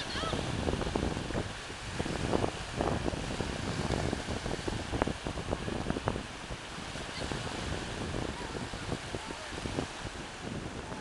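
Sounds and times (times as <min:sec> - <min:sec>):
small waves breaking: 0:00.0 - 0:11.0
wind buffeting microphone: 0:00.0 - 0:11.0.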